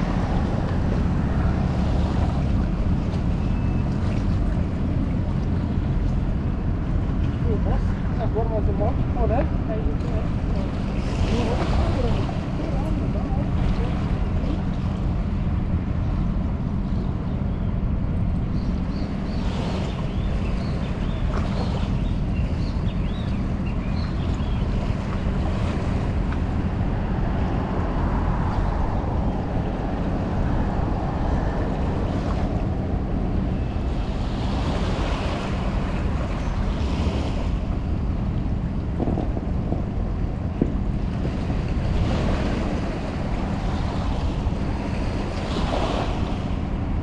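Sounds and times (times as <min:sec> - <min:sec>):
boat engines rumbling: 0:00.0 - 0:47.0
water noise: 0:00.0 - 0:47.0
wind buffeting microphone: 0:00.0 - 0:47.0.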